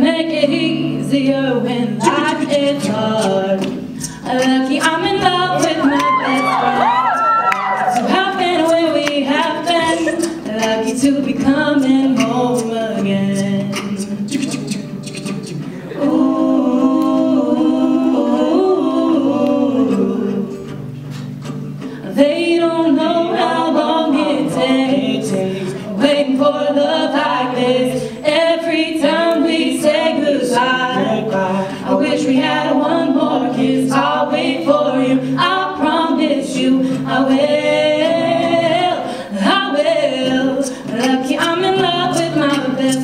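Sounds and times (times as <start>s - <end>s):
woman and man singing duet: 0.0s - 20.8s, 21.8s - 43.0s
strummed acoustic guitar: 0.0s - 43.0s.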